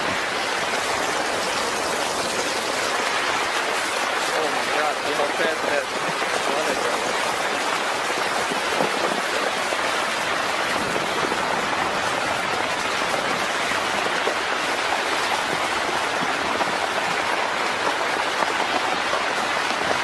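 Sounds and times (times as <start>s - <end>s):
flood water rushing: 0.0s - 20.0s.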